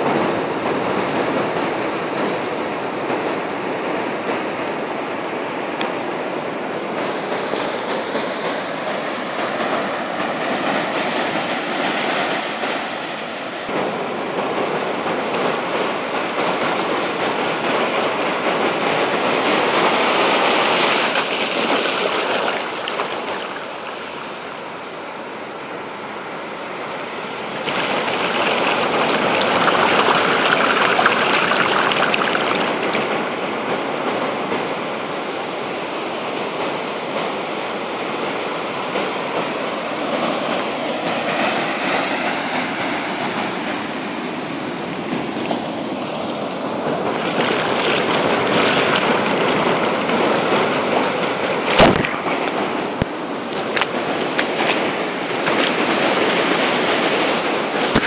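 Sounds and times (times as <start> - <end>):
ocean surf breaking on sand: 0.0 - 58.0.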